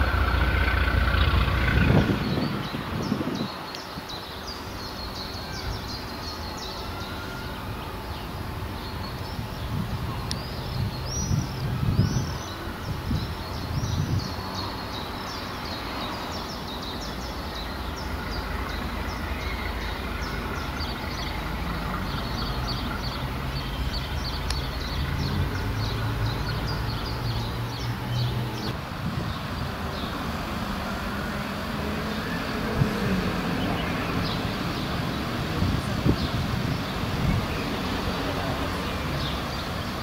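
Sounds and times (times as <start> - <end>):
diesel locomotive engine drone: 0.0 - 40.0.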